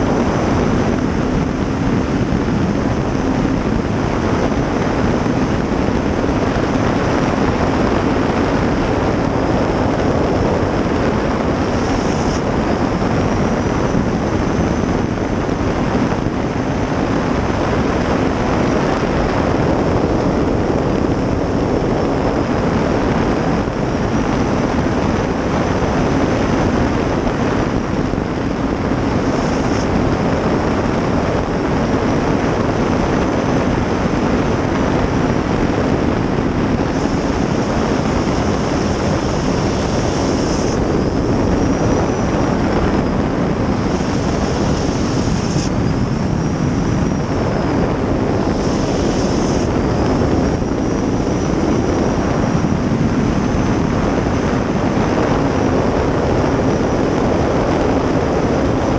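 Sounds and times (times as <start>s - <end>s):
faint high whine: 0.0s - 58.9s
jet boat turbine and water rush: 0.0s - 58.9s
wind on microphone: 0.0s - 58.9s.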